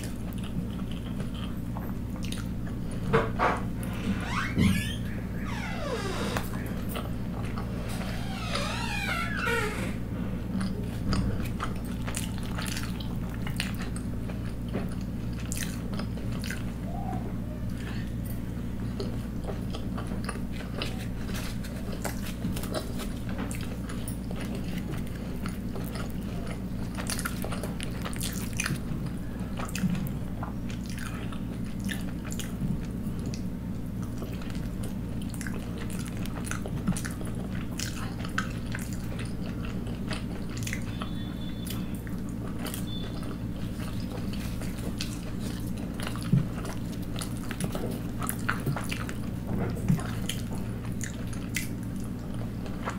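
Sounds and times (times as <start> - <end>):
chewing and mouth smacks: 0.0 - 3.1, 10.5 - 16.8, 17.7 - 52.9
steady low hum: 0.0 - 52.9.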